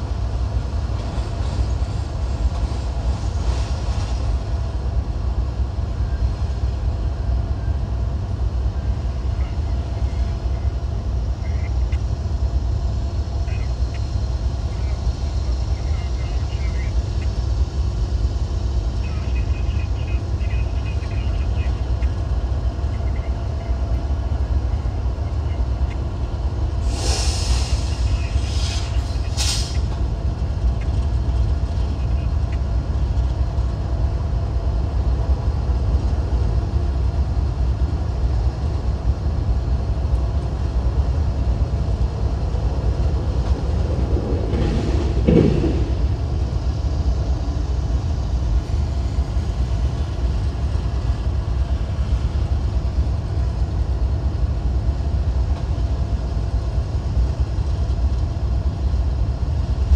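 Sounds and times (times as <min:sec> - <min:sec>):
freight train cars rumbling: 0:00.0 - 0:59.9.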